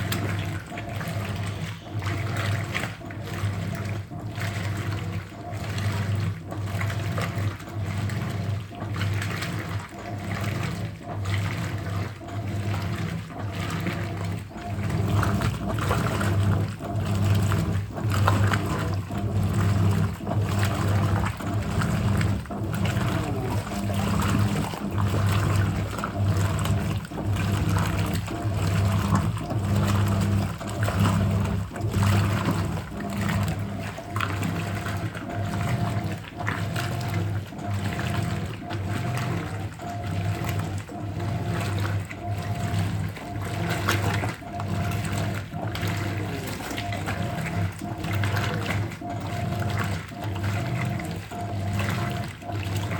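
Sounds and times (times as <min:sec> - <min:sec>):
washing machine agitator churning water: 0:00.0 - 0:52.9
washing machine motor humming: 0:00.0 - 0:52.9.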